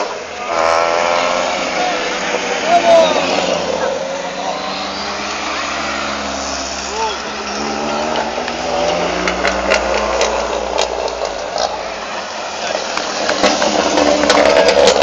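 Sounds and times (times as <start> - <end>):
car engines at low revs: 0.0 - 15.0.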